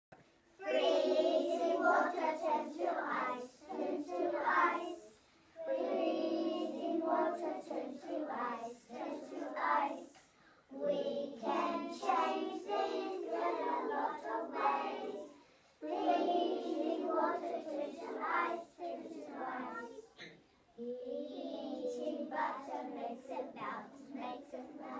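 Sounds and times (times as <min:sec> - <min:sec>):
children singing in unison: 0:00.6 - 0:24.9.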